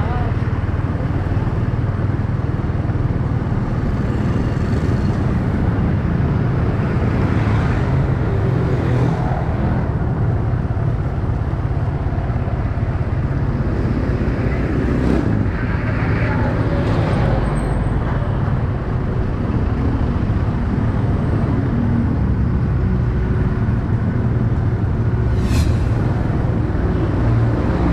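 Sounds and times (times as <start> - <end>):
traffic: 0.0 - 27.9
wind noise: 0.6 - 27.9.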